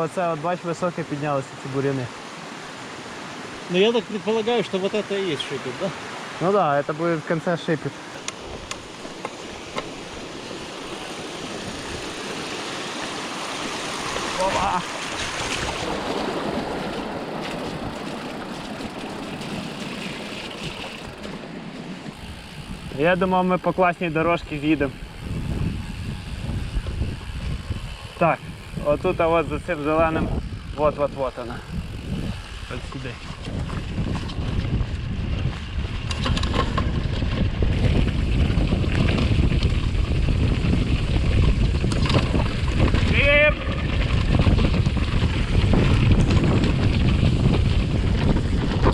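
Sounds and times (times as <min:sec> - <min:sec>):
bike tyres rumbling on trail: 0:06.3 - 0:48.9
wind buffeting: 0:07.8 - 0:48.9.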